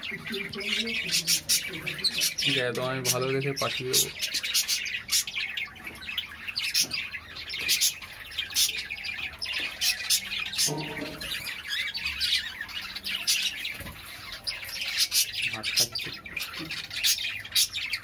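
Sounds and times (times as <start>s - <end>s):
budgerigars chattering: 0.0s - 18.0s.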